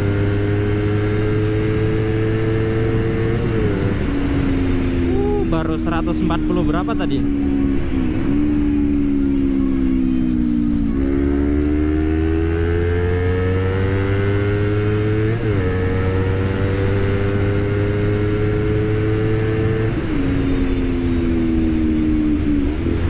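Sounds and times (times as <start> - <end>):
motorcycle engine at high speed: 0.0 - 23.0.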